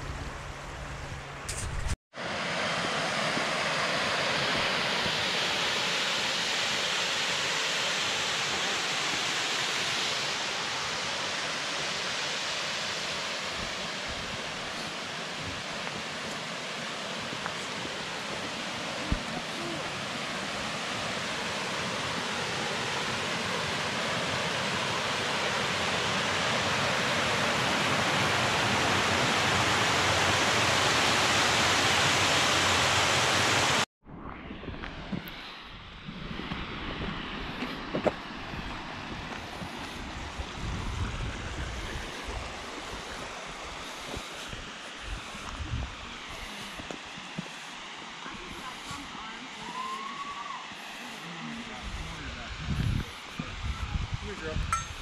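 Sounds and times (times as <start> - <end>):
waterfall rushing: 2.2 - 33.9, 38.6 - 53.4.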